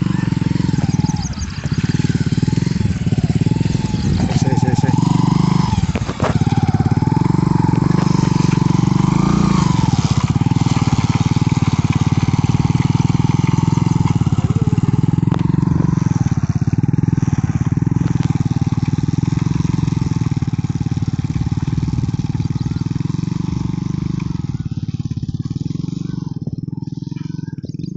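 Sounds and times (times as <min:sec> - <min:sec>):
motorcycle engine chugging: 0:00.0 - 0:27.9.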